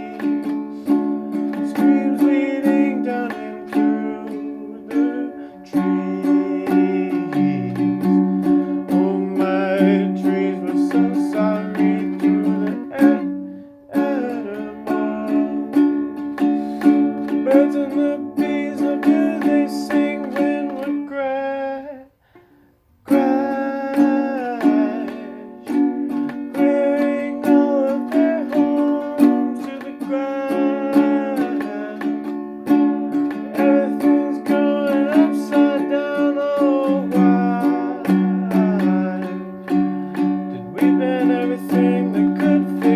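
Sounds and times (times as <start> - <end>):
strummed acoustic string chords: 0.0 - 42.9.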